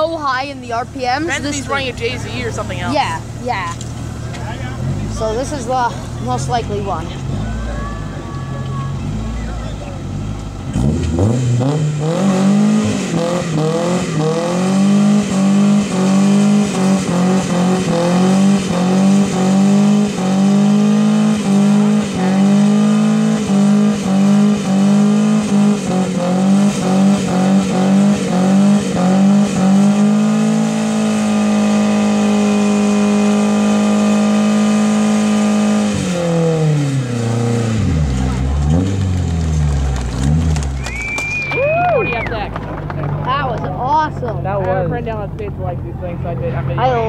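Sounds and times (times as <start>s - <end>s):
car engine revving high: 0.0s - 47.0s.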